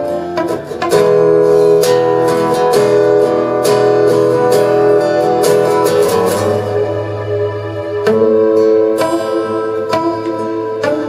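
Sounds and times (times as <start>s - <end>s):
acoustic guitars strumming: 0.0s - 11.0s
sustained keyboard notes: 0.0s - 11.0s.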